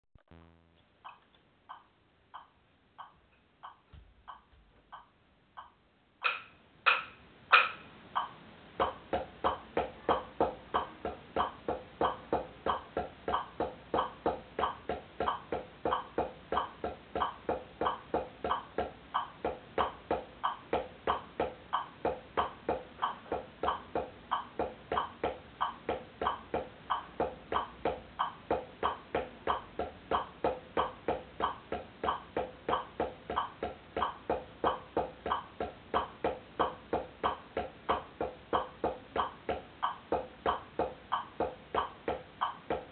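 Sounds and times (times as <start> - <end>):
drumsticks striking a practice pad: 2.4 - 42.9.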